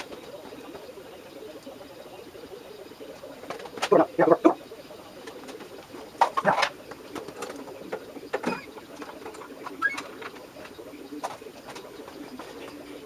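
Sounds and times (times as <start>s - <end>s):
birds cooing: 0.0s - 13.0s.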